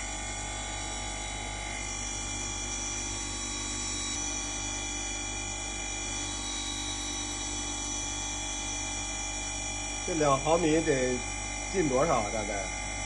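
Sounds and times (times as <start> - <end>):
brake disc grinder whirring: 0.0 - 13.0.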